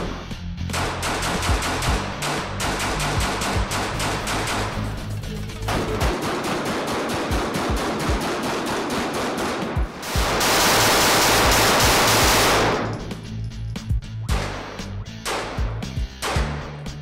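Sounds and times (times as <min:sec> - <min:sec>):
background music: 0:00.0 - 0:17.0
pistol shots: 0:00.7 - 0:05.0, 0:05.7 - 0:13.0, 0:14.3 - 0:16.7.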